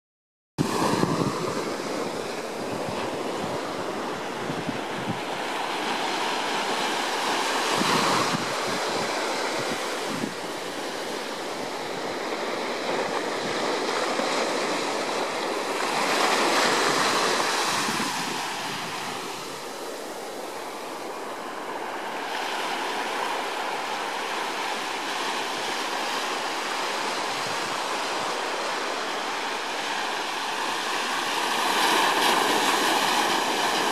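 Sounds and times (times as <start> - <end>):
small waves breaking on beach: 0.6 - 33.9.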